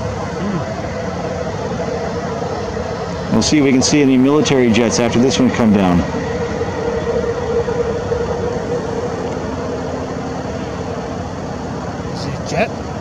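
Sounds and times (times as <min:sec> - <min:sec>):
engine-like rumble: 0:00.0 - 0:13.0
mid-pitched hum: 0:00.0 - 0:13.0.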